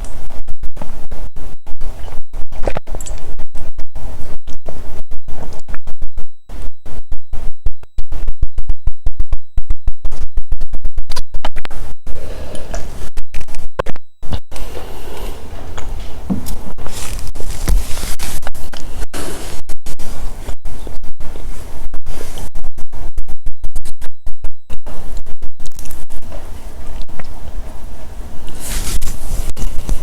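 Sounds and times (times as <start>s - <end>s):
distorted microphone crackling: 0.0s - 30.0s.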